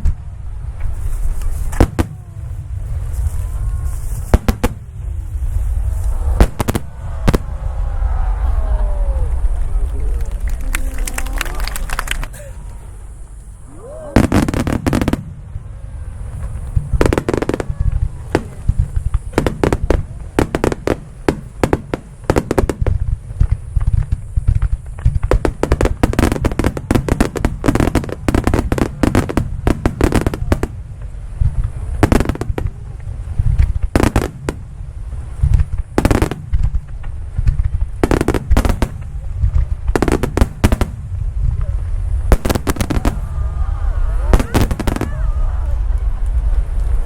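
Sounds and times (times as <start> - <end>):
deep rumble: 0.0 - 47.0.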